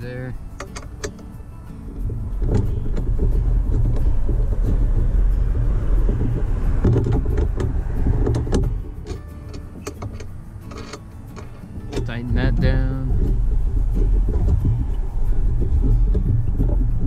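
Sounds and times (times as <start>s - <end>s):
wind buffeting microphone: 0.0s - 17.0s
strap knocking and rattling: 0.6s - 1.3s, 1.9s - 17.0s.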